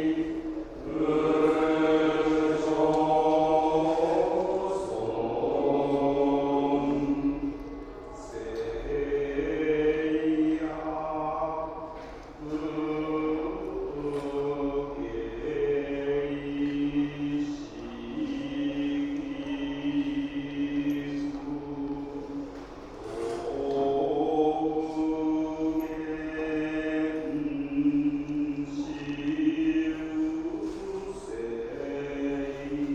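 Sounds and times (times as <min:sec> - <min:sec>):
monks chanting: 0:00.0 - 0:32.9.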